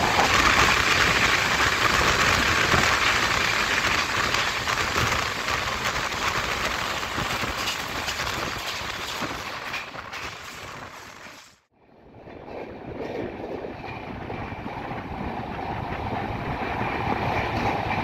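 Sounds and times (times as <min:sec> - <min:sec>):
train rushing wind and wheels: 0:00.0 - 0:18.0.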